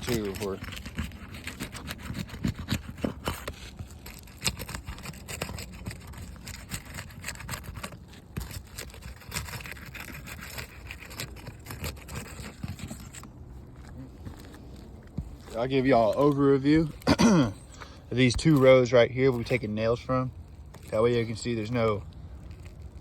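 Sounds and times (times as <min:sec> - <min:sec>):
metal tool prying under shingles: 0:00.0 - 0:23.0
shingles cracking and clicking: 0:00.0 - 0:23.0.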